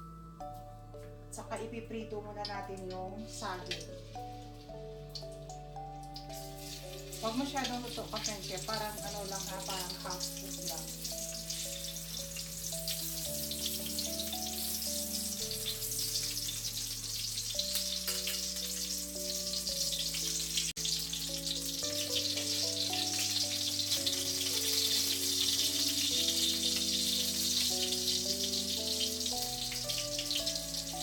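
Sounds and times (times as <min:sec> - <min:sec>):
background music: 0:00.0 - 0:31.0
bananas frying in oil: 0:02.3 - 0:31.0.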